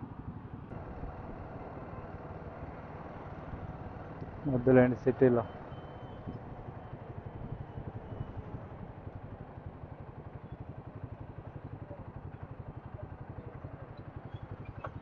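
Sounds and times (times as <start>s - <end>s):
motorcycle engine running: 0.0s - 15.0s
road and traffic noise: 0.0s - 15.0s.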